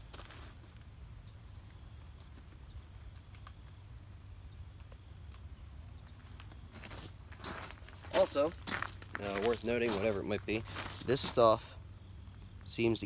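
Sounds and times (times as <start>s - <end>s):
crickets singing: 0.0s - 13.0s.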